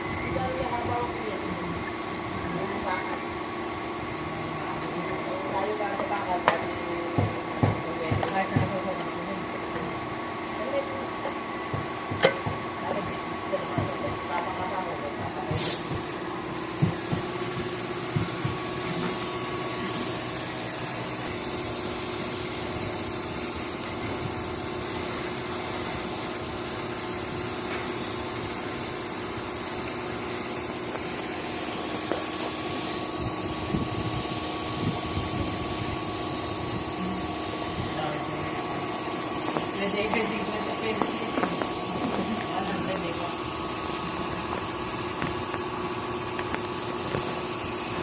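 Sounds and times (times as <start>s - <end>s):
air compressor running: 0.0s - 48.0s.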